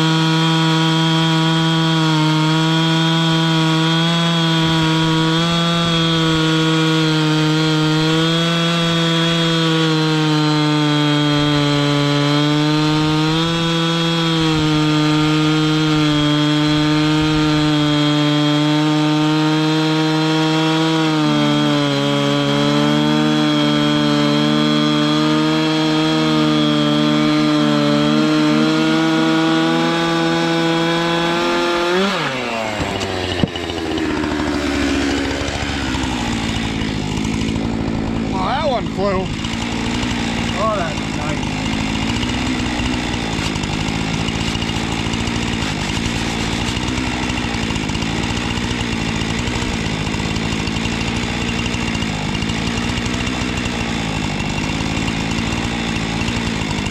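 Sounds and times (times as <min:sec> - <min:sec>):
chainsaw engine cutting log: 0:00.0 - 0:56.9
engine revving: 0:00.0 - 0:56.9.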